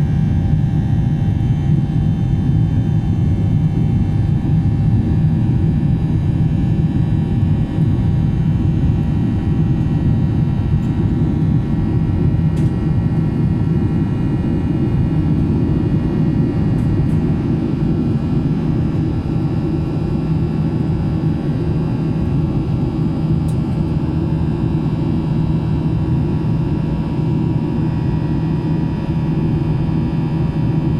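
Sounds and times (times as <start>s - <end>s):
jet engine low rumble: 0.0s - 30.9s.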